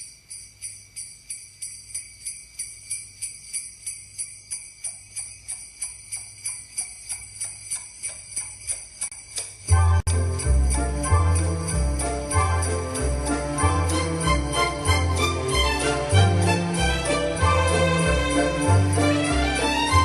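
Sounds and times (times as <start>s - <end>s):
sleigh bells shaken: 0.0s - 20.0s.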